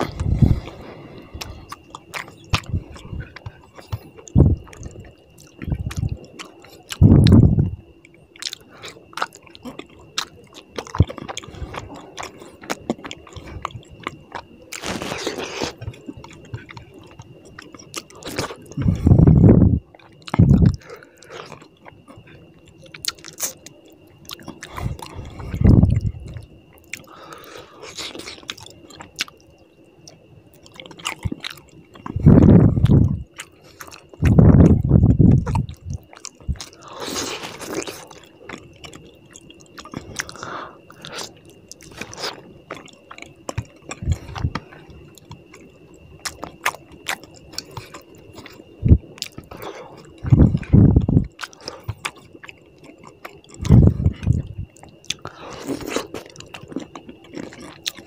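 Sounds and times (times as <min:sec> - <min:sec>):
wet chewing and squishing: 0:00.0 - 0:58.0.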